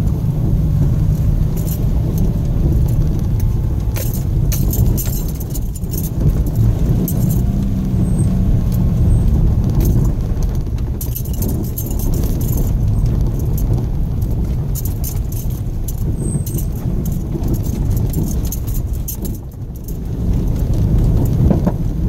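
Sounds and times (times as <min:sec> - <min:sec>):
car interior rattling: 0:00.0 - 0:22.0
engine and tyres rumbling: 0:00.0 - 0:22.0.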